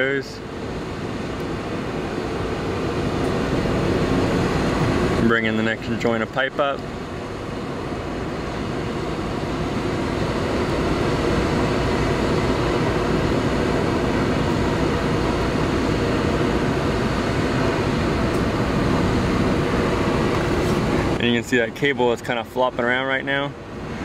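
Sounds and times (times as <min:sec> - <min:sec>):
drilling rig machinery drone: 0:00.0 - 0:24.0.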